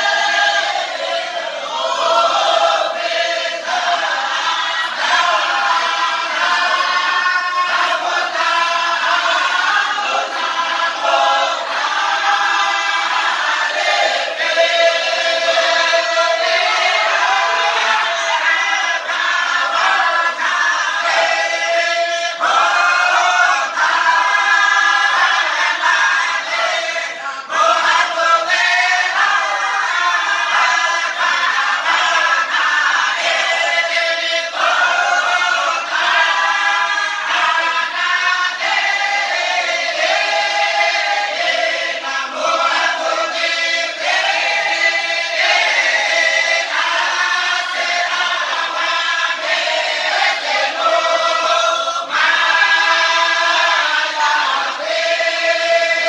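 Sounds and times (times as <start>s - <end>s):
men singing a chant: 0.0s - 56.0s.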